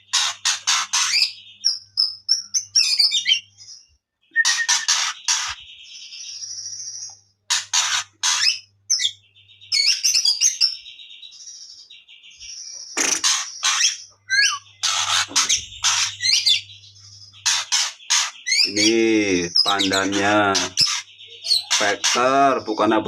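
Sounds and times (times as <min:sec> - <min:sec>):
songbird singing with buzzy rattles: 0:00.0 - 0:23.0.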